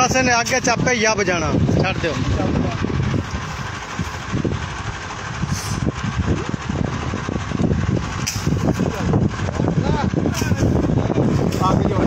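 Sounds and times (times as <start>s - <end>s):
engine running steadily: 0.0s - 12.0s
low rumble on microphone: 0.0s - 12.0s.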